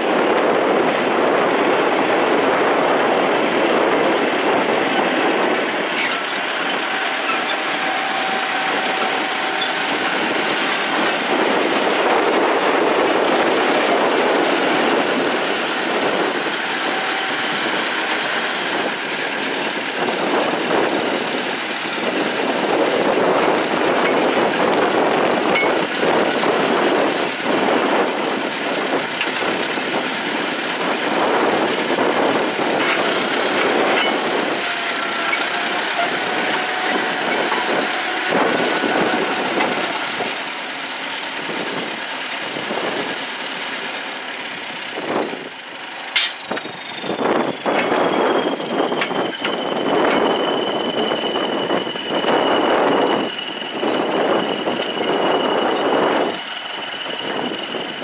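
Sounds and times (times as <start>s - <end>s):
diesel engine running: 0.0s - 58.0s
steady high whine: 0.0s - 58.0s
steel tracks clattering: 0.0s - 58.0s.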